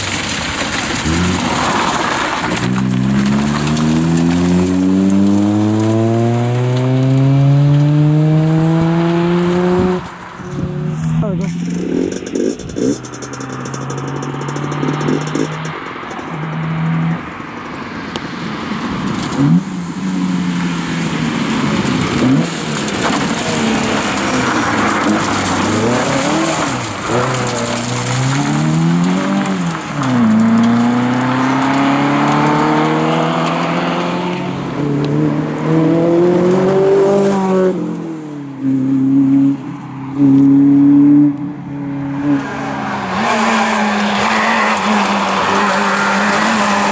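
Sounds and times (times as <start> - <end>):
rally car engine revving: 0.0 - 46.9
second car engine: 0.0 - 46.9.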